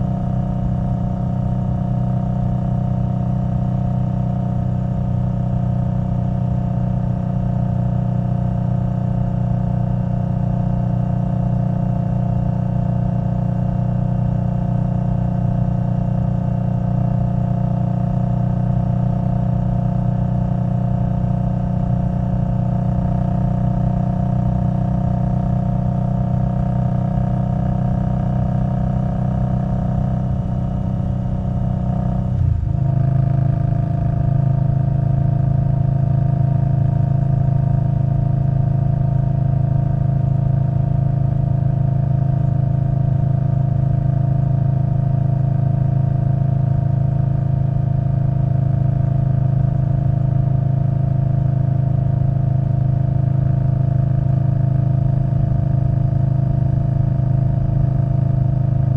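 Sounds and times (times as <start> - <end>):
motorcycle exhaust under throttle: 0.0 - 58.9.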